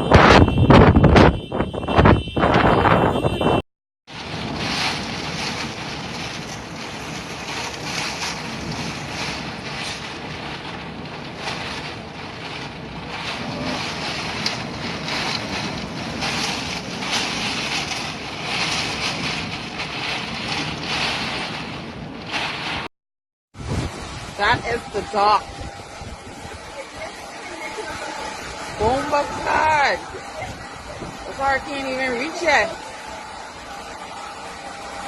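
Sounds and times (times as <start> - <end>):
hurricane wind gusts: 0.0 - 22.9, 23.5 - 35.0
wind noise on microphone: 0.0 - 22.9, 23.5 - 35.0.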